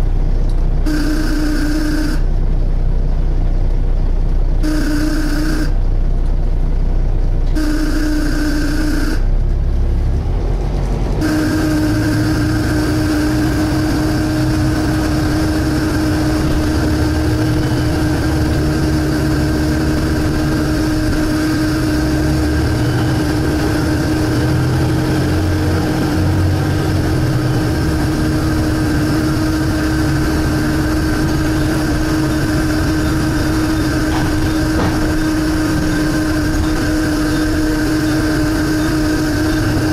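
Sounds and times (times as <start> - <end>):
high whine: 0.0 - 9.9, 11.2 - 39.9
bus engine rumble: 0.0 - 39.9.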